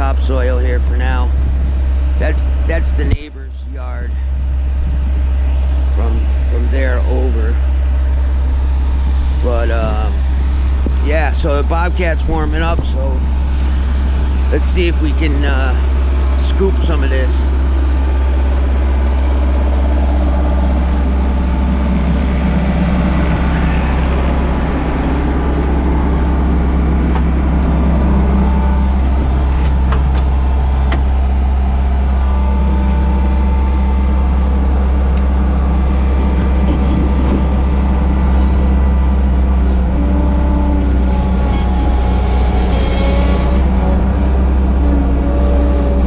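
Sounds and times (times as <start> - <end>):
diesel engine running: 0.0 - 46.0
high machine whine: 0.0 - 46.0.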